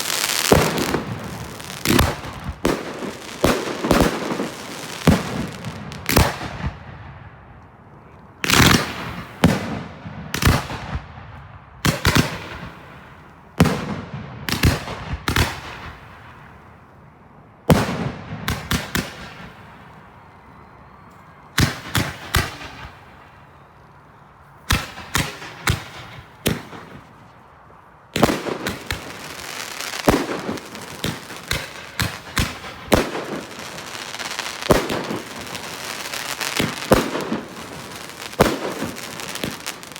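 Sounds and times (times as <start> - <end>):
fireworks bangs: 0.0 - 7.4, 8.4 - 16.7, 17.7 - 20.8, 21.4 - 39.9.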